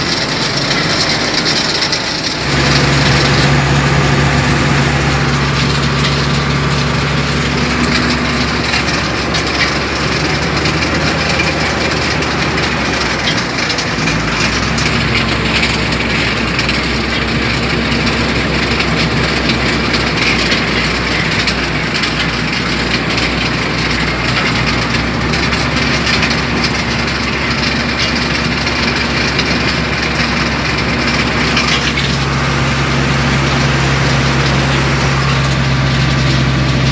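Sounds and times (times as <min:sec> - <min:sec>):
engine running: 0:00.0 - 0:36.9
mechanical clatter: 0:00.0 - 0:36.9.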